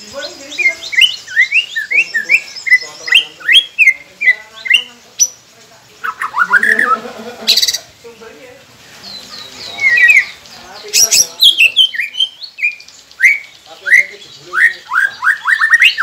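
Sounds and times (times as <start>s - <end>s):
bird whistled song: 0.1s - 5.4s, 6.0s - 7.8s, 9.0s - 16.0s.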